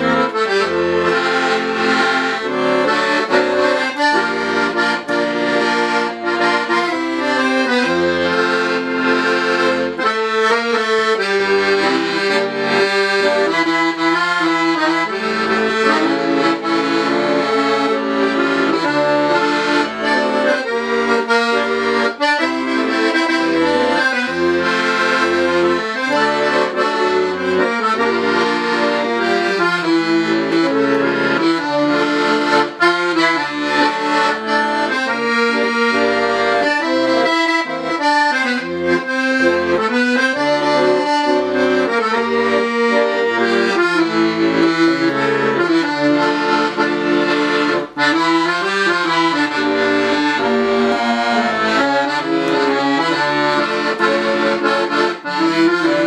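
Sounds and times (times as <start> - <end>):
piano accordion playing: 0.0 - 56.0.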